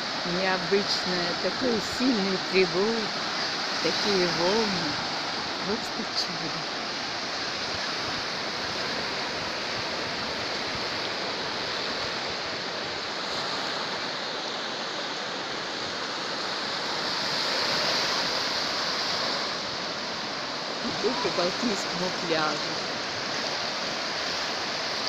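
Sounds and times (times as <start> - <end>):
surf breaking on shore: 0.0 - 25.0.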